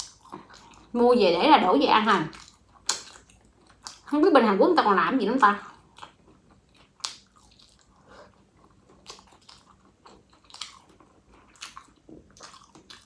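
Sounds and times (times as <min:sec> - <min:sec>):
close-up chewing: 0:00.0 - 0:04.4, 0:05.4 - 0:13.0.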